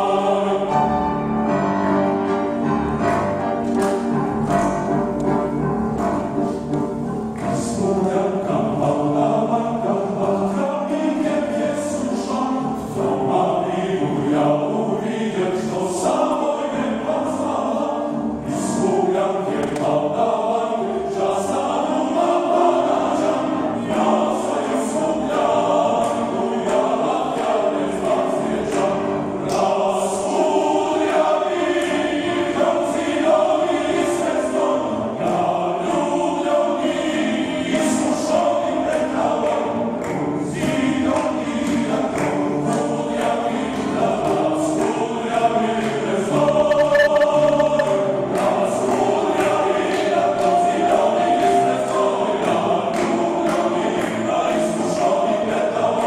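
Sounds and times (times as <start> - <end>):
male choir singing: 0.0 - 56.0.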